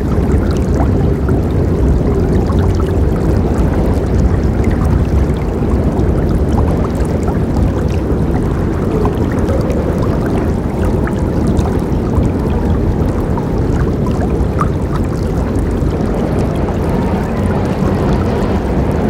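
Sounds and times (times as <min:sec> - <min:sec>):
river water rushing: 0:00.0 - 0:19.0
small splashes and trickles: 0:00.0 - 0:19.0.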